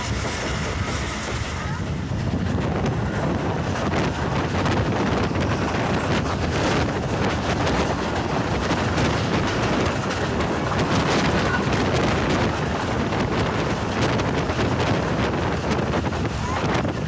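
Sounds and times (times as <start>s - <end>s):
train running on track: 0.0s - 17.0s
wind buffeting microphone: 0.0s - 17.0s.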